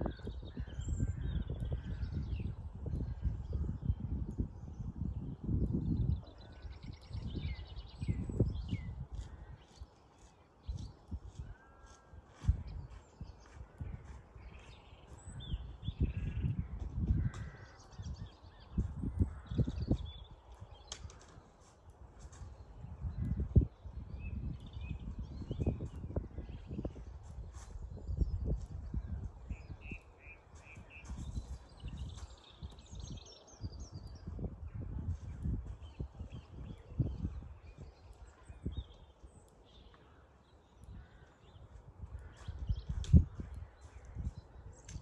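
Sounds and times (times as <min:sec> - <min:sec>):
wind buffeting microphone: 0:00.0 - 0:10.0, 0:10.6 - 0:39.5, 0:40.1 - 0:45.0
songbirds calling: 0:00.0 - 0:45.0.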